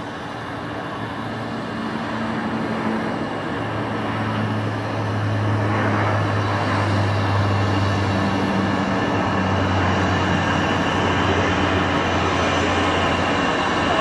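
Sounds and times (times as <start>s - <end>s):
propeller hum: 0.0s - 14.0s
rushing noise: 0.0s - 14.0s.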